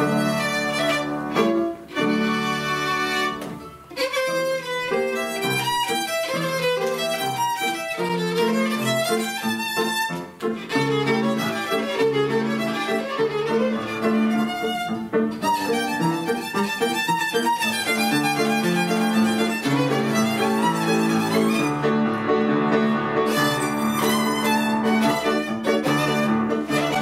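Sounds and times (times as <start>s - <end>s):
violin melody: 0.0s - 27.0s.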